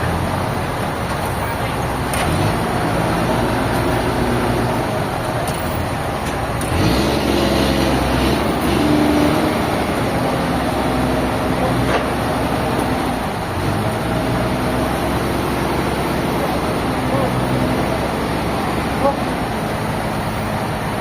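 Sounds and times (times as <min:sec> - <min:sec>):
sawmill engine drone: 0:00.0 - 0:21.0.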